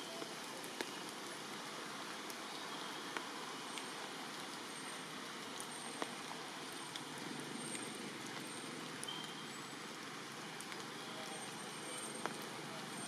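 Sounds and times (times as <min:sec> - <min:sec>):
sharp water drips: 0:00.0 - 0:13.0
steady rain falling: 0:00.0 - 0:13.0.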